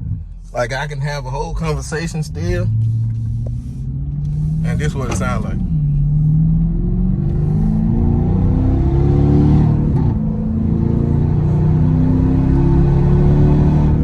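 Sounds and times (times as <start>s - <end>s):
car engine exhaust accelerating: 0.0s - 14.0s.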